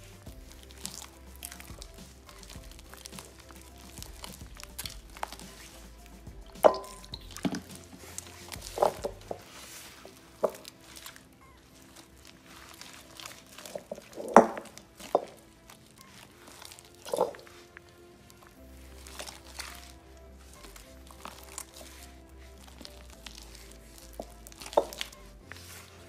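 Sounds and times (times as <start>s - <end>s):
slime squelching and popping: 0.0s - 26.0s
soft background music: 0.0s - 26.0s.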